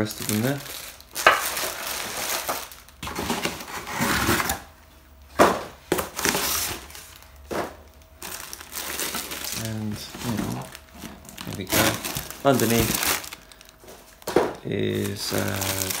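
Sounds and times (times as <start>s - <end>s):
cellophane crinkling: 0.0s - 4.7s, 5.9s - 16.0s
cardboard rustling: 0.2s - 4.6s, 5.4s - 16.0s.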